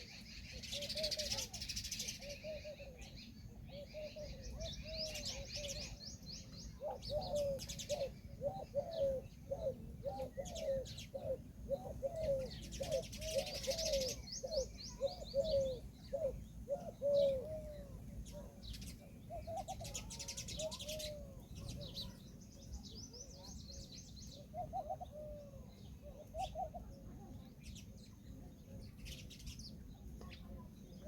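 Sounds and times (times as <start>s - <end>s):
peahen calling: 0.0s - 27.8s
small birds chirping: 0.0s - 31.0s.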